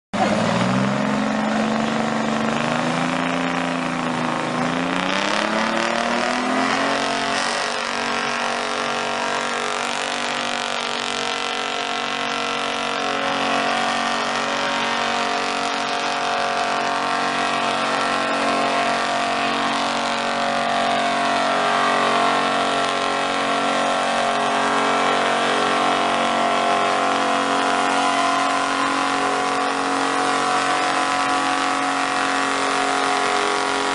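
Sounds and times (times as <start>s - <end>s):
truck engine revving: 0.2s - 33.9s.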